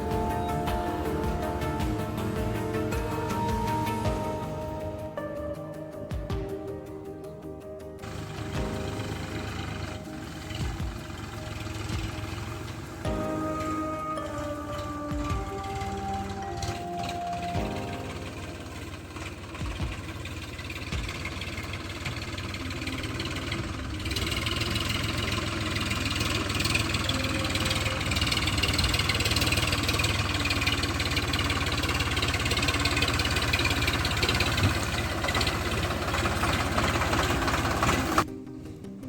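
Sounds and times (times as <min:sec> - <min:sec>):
tractor engine running: 0:00.0 - 0:05.2, 0:08.0 - 0:38.3.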